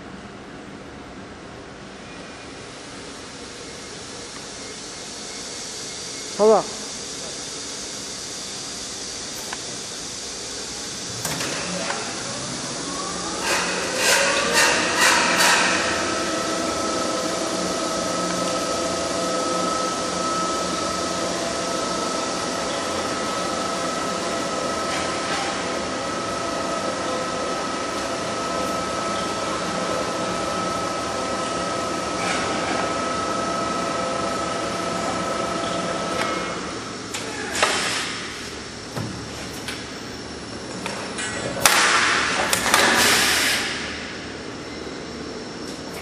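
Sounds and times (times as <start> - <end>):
duct forming machine whining: 7.4 - 46.0.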